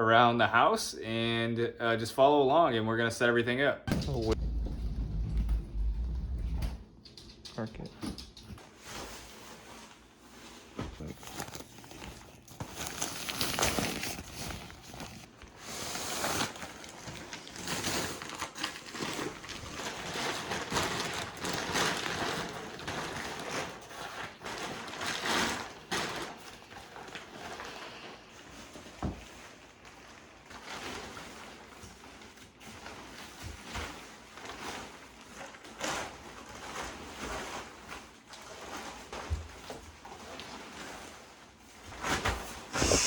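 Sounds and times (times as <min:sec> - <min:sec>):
rustling and crinkling: 0:03.9 - 0:43.0.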